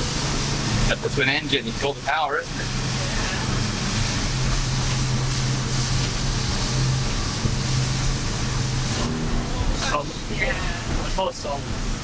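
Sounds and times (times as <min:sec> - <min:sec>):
outboard engines humming: 0:00.0 - 0:12.0
water and wind rushing past hull: 0:00.0 - 0:12.0.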